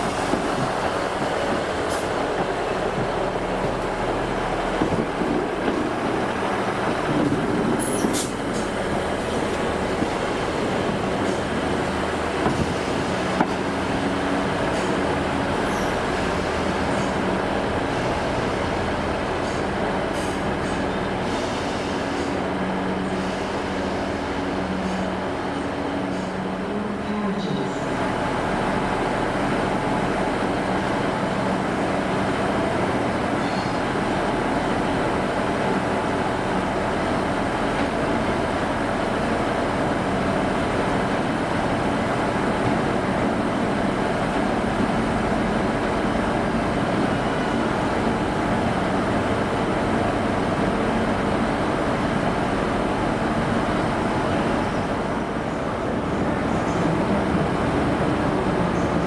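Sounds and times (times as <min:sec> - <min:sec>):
train diesel engine running: 0:00.0 - 0:59.0.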